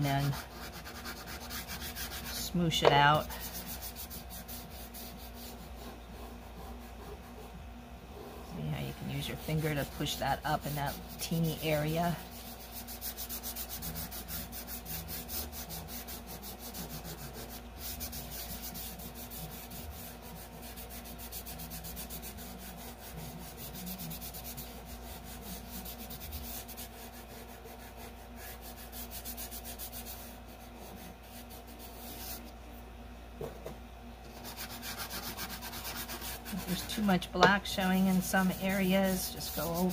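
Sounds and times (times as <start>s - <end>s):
fingertips rubbing pastel on paper: 0.0s - 7.6s, 8.2s - 32.6s, 34.3s - 39.9s.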